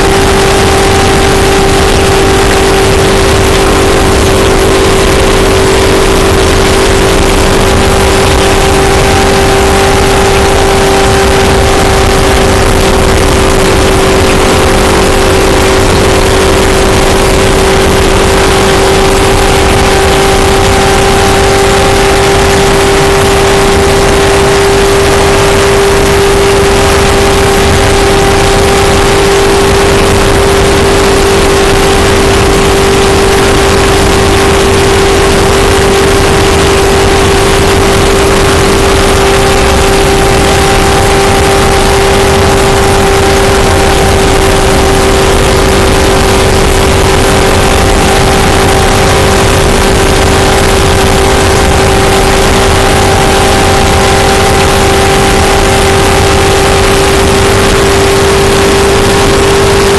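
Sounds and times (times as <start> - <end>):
race car engine at full throttle: 0.0 - 59.9
wind and road noise: 0.0 - 59.9.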